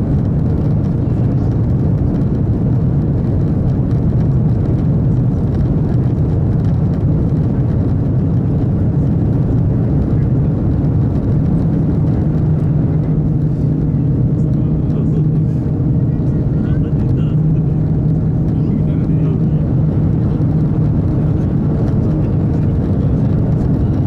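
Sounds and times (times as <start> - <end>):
train cabin low rumble: 0.0 - 24.0.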